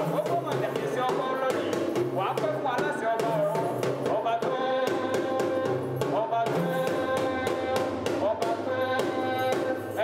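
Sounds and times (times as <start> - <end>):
drums: 0.0 - 9.9.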